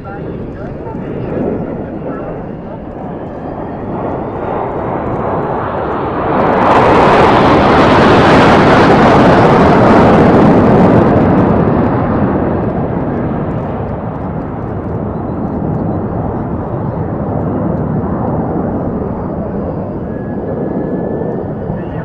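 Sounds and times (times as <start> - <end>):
jet engines passing over: 0.0 - 22.0.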